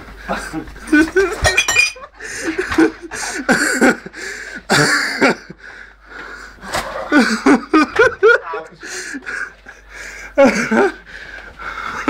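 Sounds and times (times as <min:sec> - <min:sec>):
men laughing: 0:00.2 - 0:05.8, 0:06.7 - 0:12.0.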